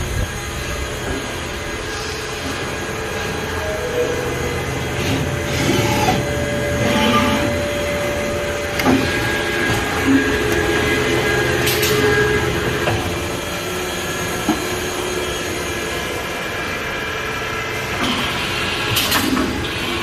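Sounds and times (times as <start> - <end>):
machining center whining: 0.0 - 20.0.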